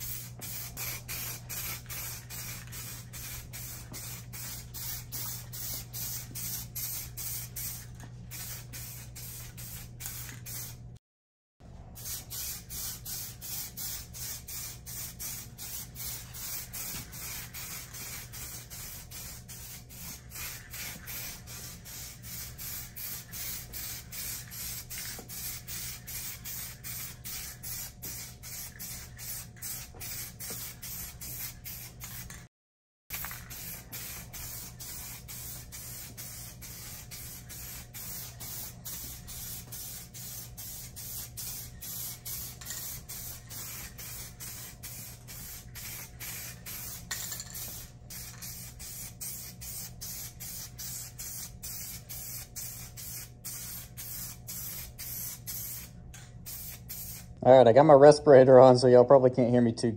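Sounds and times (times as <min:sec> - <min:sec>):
aerosol spray can hissing: 0:00.0 - 0:10.8, 0:12.0 - 0:32.5, 0:33.1 - 0:55.9, 0:56.5 - 0:57.3.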